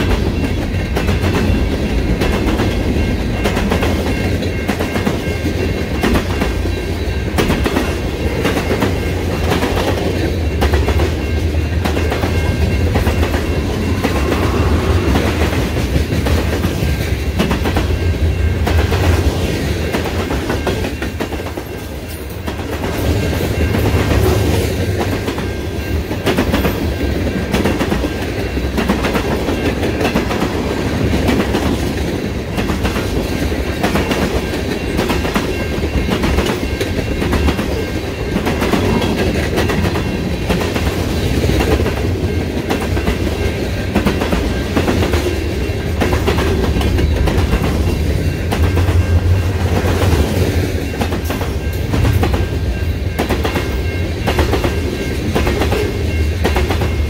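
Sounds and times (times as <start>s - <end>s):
freight train rumble: 0.0s - 57.0s.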